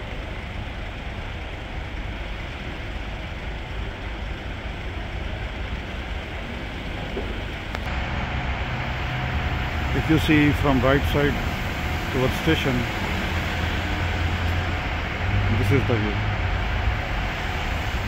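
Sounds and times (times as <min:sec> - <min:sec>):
bus engine idling: 0:00.0 - 0:18.0
traffic rumble: 0:00.0 - 0:18.0.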